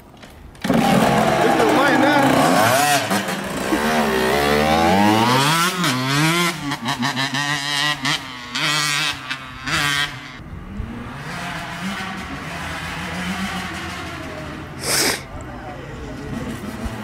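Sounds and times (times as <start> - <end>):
dirt bike revving: 0.6 - 14.8.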